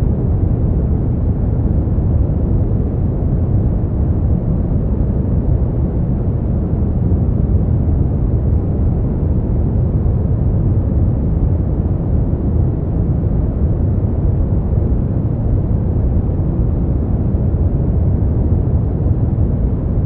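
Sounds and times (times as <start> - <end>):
deep white noise whoosh: 0.0 - 20.0.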